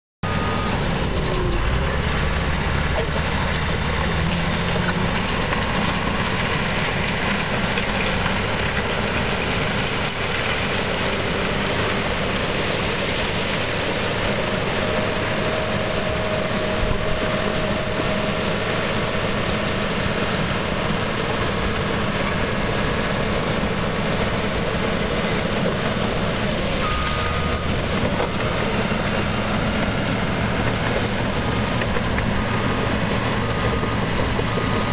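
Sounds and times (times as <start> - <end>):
dozer diesel engine under load: 0.2 - 34.9
steel tracks moving: 0.8 - 34.9.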